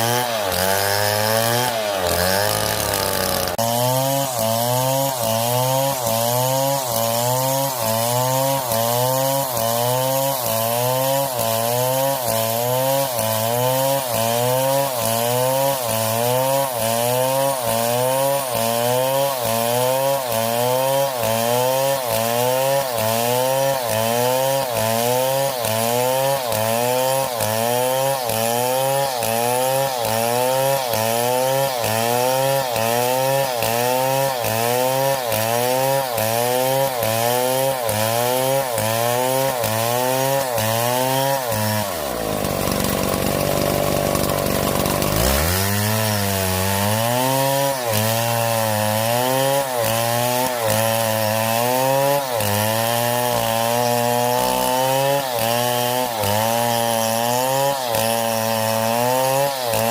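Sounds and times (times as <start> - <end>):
motorised saw running: 0.0 - 59.9.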